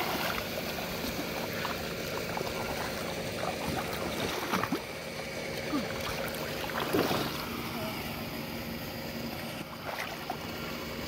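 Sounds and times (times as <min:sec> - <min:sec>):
muddy water splashing: 0:00.0 - 0:08.2, 0:09.3 - 0:11.0.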